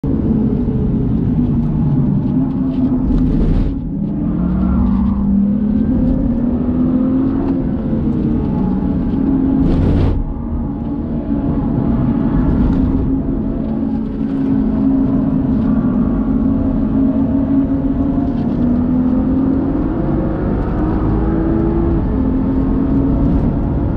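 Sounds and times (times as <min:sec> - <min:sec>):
car engine revving: 0:01.5 - 0:23.9.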